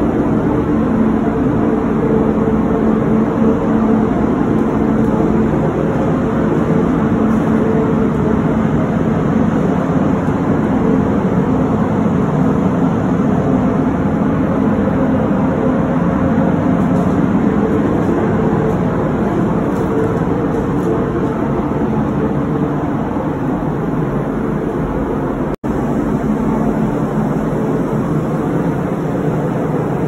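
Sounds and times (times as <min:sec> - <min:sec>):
air-handling fans rushing: 0:00.0 - 0:30.0
low hum: 0:00.0 - 0:30.0.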